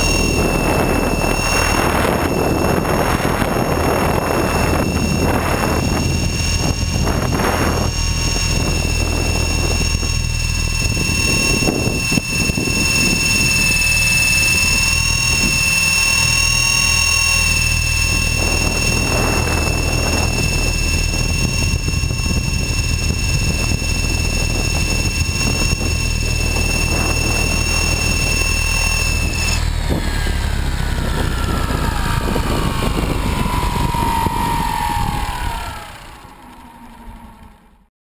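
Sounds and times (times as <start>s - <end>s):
wind buffeting the microphone: 0.0s - 37.6s
model plane motor and propeller: 0.0s - 37.9s.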